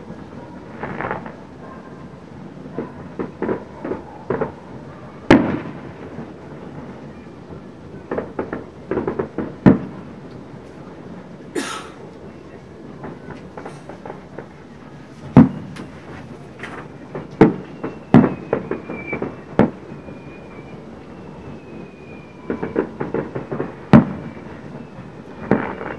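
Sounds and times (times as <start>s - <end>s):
fireworks bursting with sharp bangs: 0.0s - 25.9s.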